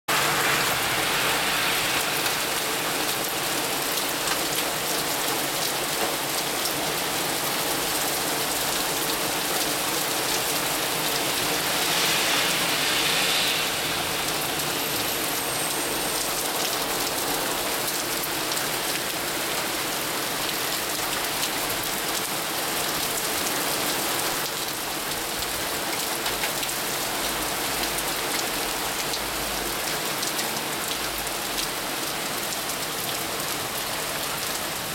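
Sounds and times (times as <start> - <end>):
hail and heavy rain pelting: 0.1 - 34.9.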